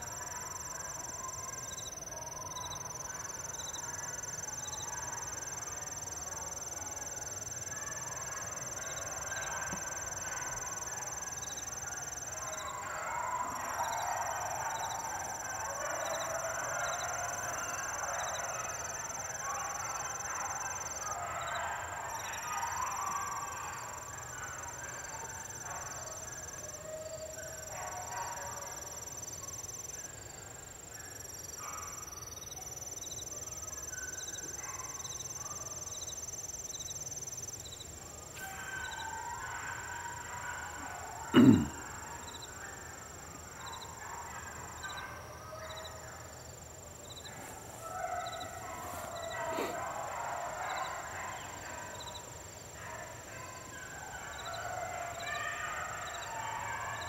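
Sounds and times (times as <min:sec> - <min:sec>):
dogs baying: 0:00.0 - 0:30.1, 0:38.2 - 0:57.0
insects trilling and chirping: 0:00.0 - 0:57.0.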